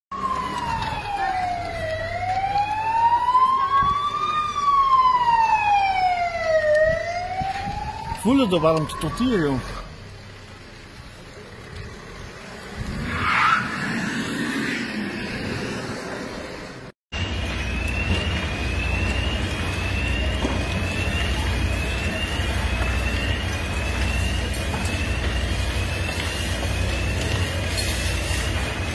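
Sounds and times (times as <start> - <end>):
emergency vehicle siren wailing: 0.1 - 10.0, 12.8 - 16.4, 17.2 - 28.9.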